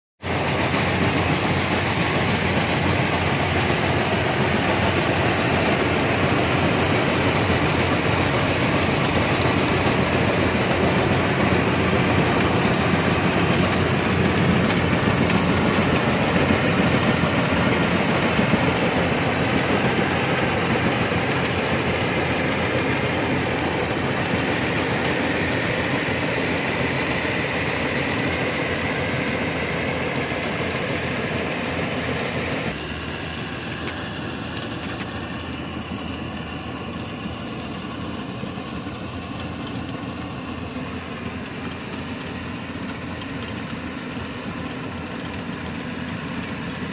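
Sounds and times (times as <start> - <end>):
combine harvester rattling: 0.2 - 46.9.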